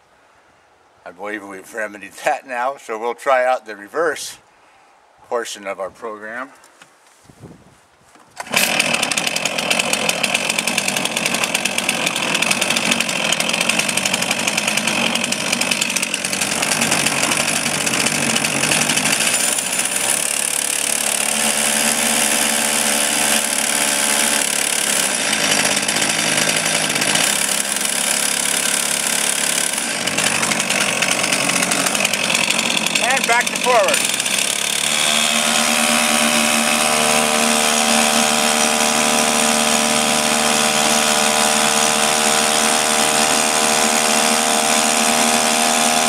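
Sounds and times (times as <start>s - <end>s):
two-stroke boat motor running: 8.4s - 46.0s.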